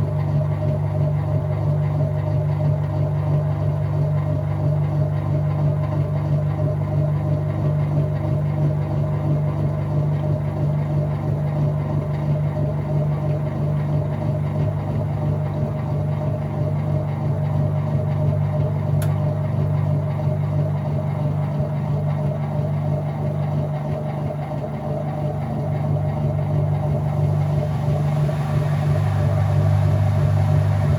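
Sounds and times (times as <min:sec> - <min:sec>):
washing machine motor hum: 0:00.0 - 0:30.9.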